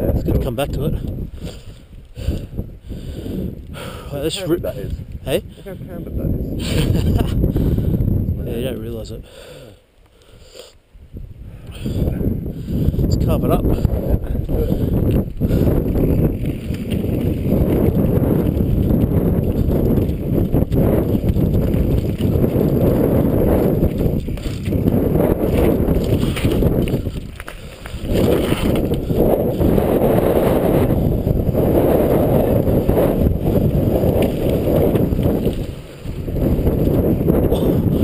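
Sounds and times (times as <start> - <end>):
bike tyres rumbling and rattling: 0.0 - 9.1, 11.5 - 38.0
wind buffeting on microphone: 0.0 - 9.4, 10.3 - 38.0.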